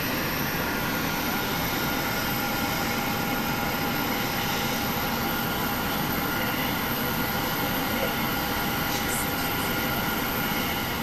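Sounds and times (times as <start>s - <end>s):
jet turbine whine: 0.0s - 11.0s.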